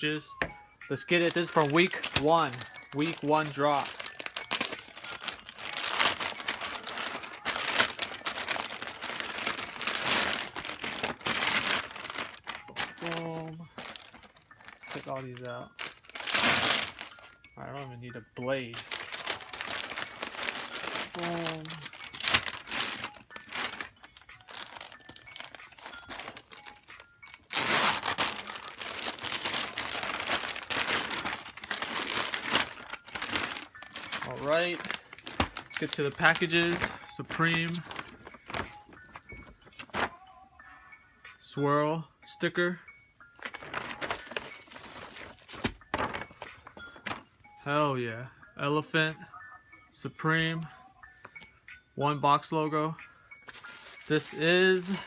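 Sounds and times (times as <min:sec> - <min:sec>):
packaging crinkling: 0:01.1 - 0:40.3, 0:43.4 - 0:47.3, 0:53.5 - 0:55.0.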